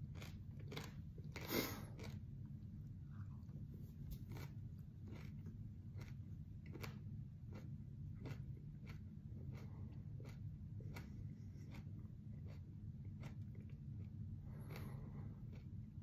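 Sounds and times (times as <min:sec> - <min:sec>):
person chewing with crunches: 0:00.0 - 0:16.0
steady low hum: 0:00.0 - 0:16.0.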